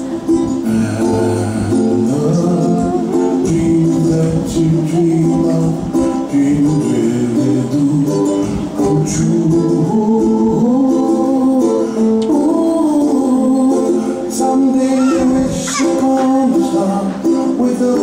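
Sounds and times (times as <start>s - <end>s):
held instrumental notes: 0.0s - 18.0s
people singing: 0.0s - 18.0s.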